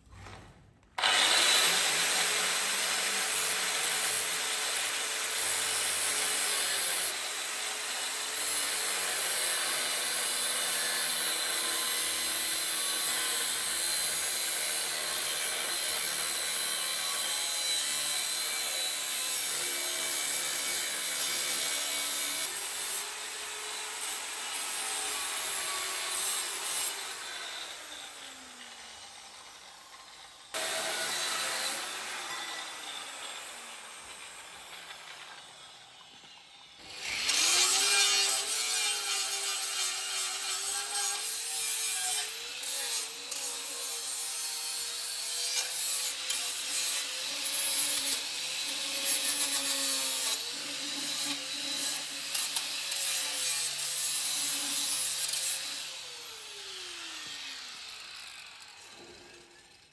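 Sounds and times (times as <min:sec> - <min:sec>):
saw cutting through steel: 0:01.0 - 0:59.9.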